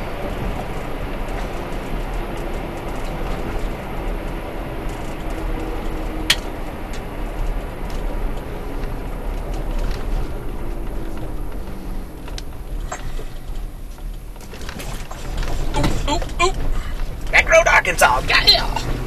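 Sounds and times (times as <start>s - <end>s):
car road noise inside cabin: 0.0s - 19.0s.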